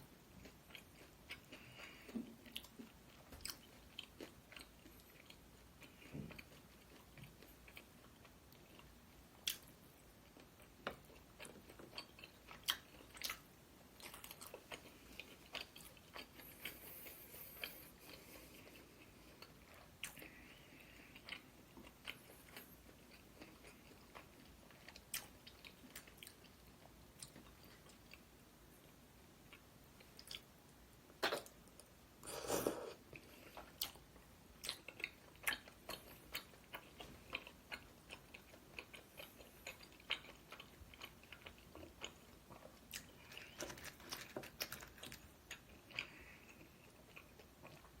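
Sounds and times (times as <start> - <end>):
person chewing and crunching food: 0.1 - 48.0.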